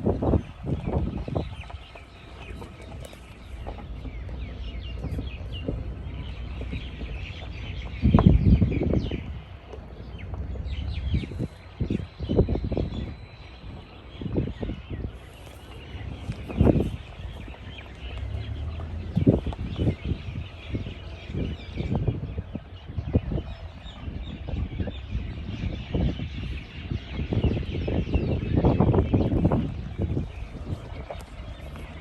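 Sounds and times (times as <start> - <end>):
birds chirping and twittering: 0.0 - 32.0.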